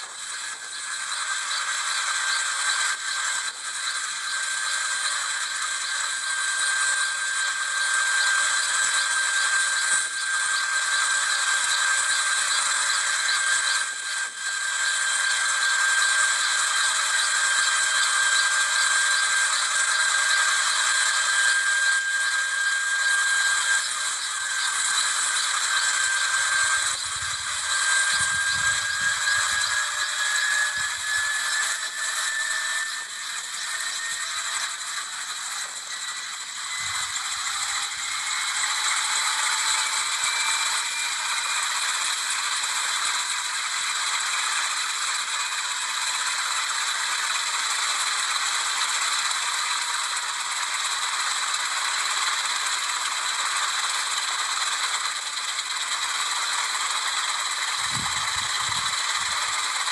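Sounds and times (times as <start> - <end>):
helicopter rotors whining: 0.0 - 59.9.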